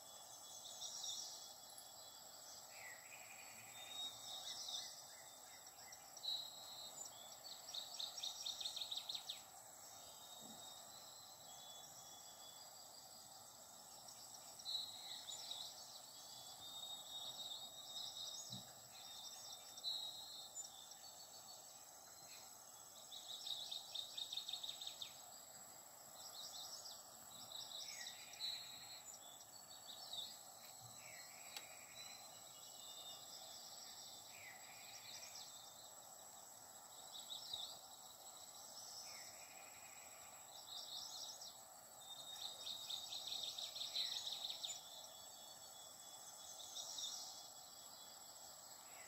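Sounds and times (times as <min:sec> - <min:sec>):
faint high whine: 0:00.0 - 0:49.0.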